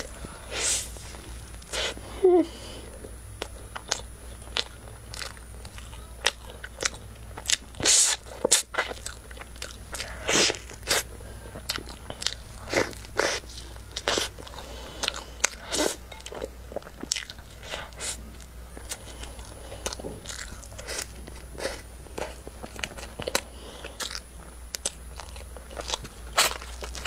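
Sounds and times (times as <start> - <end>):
chewing: 2.9 - 27.0.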